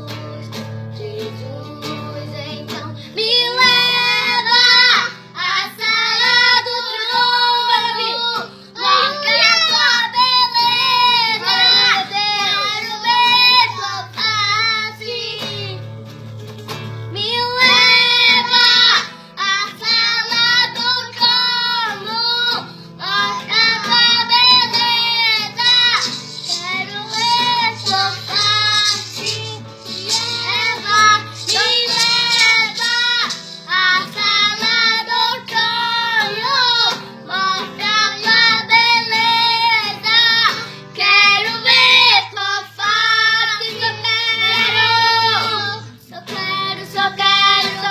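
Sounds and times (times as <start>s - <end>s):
child singing: 0.0s - 16.0s, 17.1s - 47.9s
instrumental backing: 0.0s - 47.9s.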